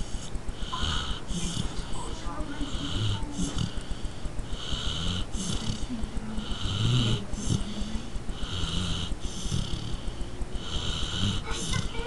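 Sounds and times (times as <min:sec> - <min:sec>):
dog snoring wheezily: 0:00.0 - 0:01.9, 0:02.6 - 0:11.9.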